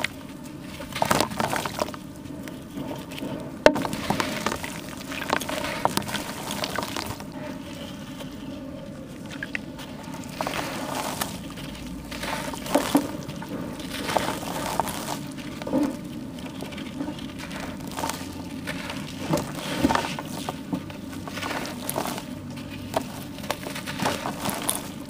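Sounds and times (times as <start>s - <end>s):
charcoal crunching and crackling: 0.0s - 25.0s.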